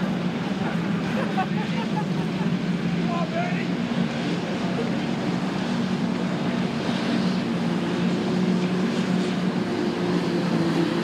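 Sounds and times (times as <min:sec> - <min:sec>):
engines droning: 0:00.0 - 0:11.0
higher engine tone: 0:00.0 - 0:11.0.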